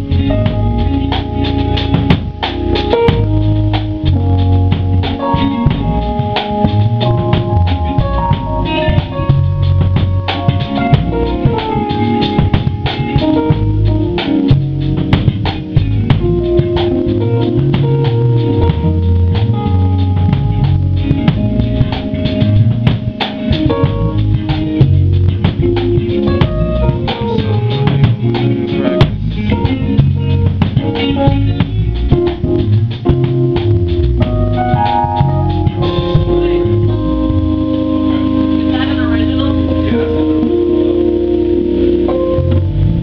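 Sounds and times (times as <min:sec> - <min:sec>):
drum kit: 0:00.0 - 0:43.0
electric bass: 0:00.0 - 0:43.0
electric guitar: 0:00.0 - 0:43.0.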